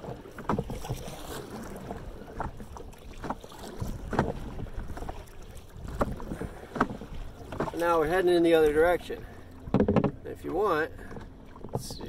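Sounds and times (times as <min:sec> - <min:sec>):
canoe paddle strokes in water: 0:00.0 - 0:12.0.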